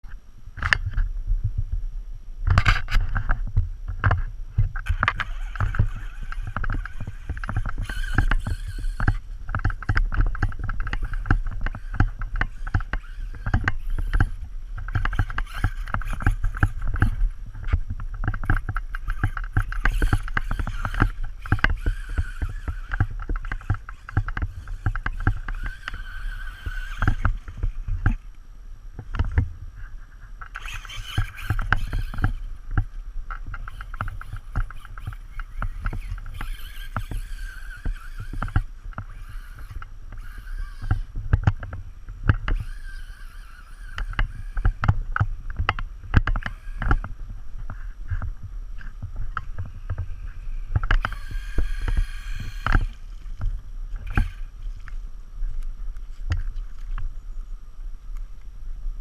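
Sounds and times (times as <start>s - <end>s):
rc truck motor whine: 2.5s - 28.4s, 29.0s - 56.3s.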